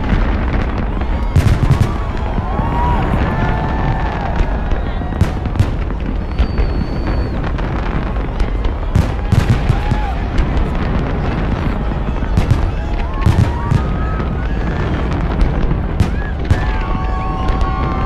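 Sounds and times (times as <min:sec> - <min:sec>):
fireworks cracking: 0:00.0 - 0:18.0.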